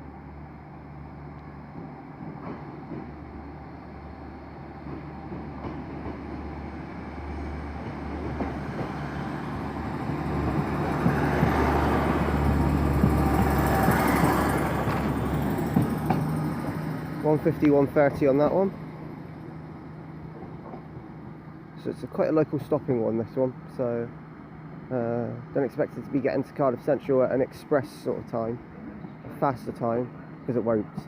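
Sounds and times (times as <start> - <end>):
diesel train engines humming: 0.0 - 31.0.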